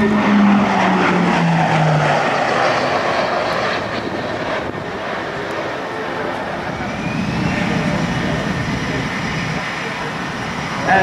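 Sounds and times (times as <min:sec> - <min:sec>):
propeller aircraft flying past: 0:00.0 - 0:11.0.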